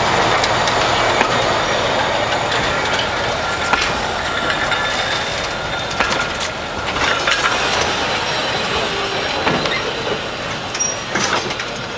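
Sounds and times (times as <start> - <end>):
train coaches rolling rattle: 0.0 - 11.9
wheels clicking over rail joints: 0.0 - 11.9.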